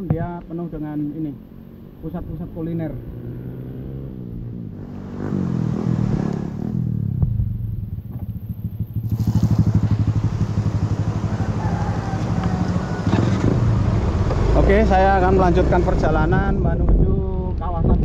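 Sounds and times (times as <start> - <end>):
motorcycle engine running: 1.4 - 17.5.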